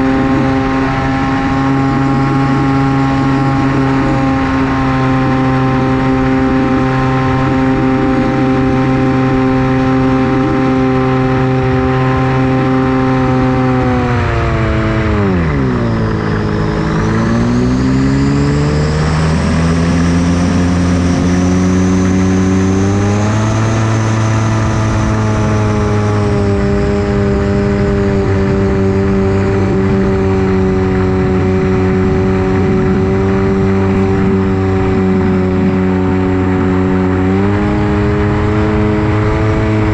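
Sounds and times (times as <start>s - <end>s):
electric motor and propeller: 0.0s - 39.9s.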